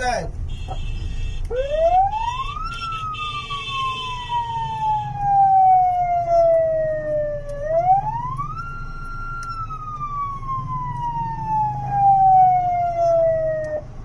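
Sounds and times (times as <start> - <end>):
engine and traffic rumble: 0.0 - 14.0
electronic siren wailing: 1.5 - 13.9.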